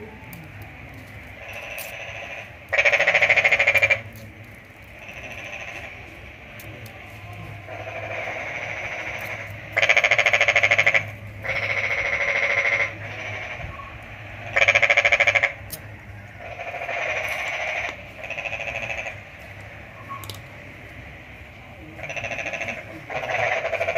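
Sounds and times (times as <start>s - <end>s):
electric arc buzzing and crackling: 0.0s - 19.6s.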